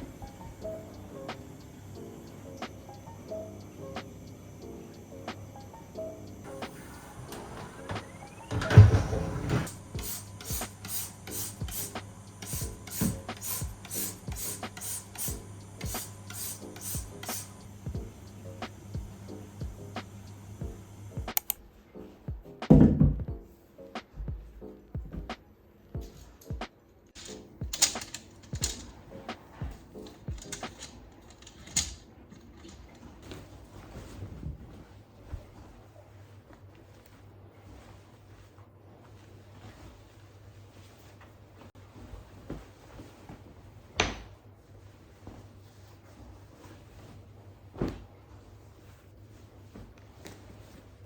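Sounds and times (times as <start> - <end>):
faint background music: 0.0 - 51.0.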